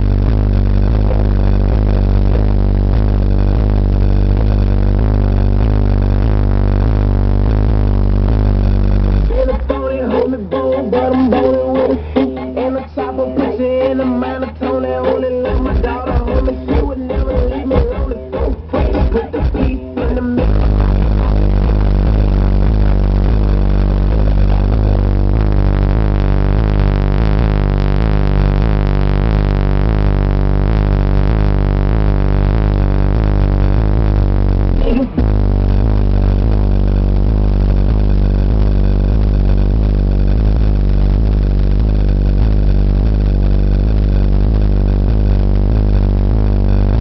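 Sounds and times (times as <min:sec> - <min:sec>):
music with heavy deep bass: 0:00.0 - 0:47.0.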